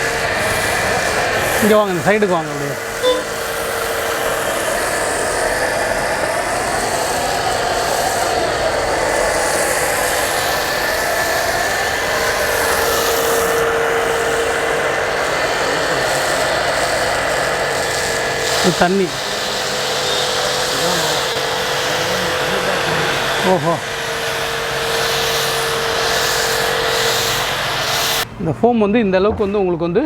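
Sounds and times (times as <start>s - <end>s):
hiss of foam spray: 0.0s - 28.2s
pressure washer motor running: 0.0s - 28.3s.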